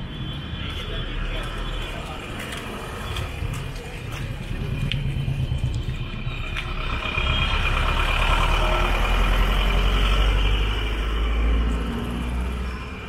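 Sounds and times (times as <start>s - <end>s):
vehicle engine rumble passing: 1.2s - 13.0s.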